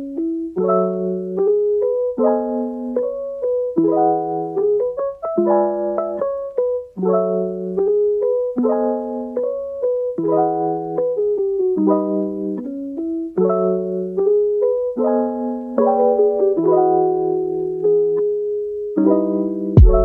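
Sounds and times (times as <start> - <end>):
slow piano melody with chords: 0.0 - 20.0.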